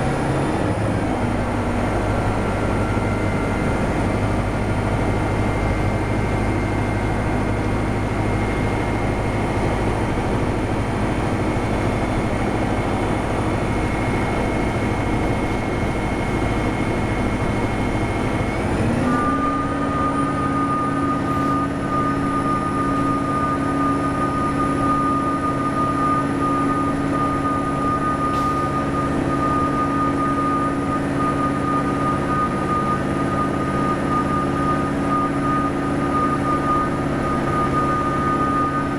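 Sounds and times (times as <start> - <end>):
bus diesel engine: 0.0 - 38.9
turbocharger whistling: 2.4 - 38.9.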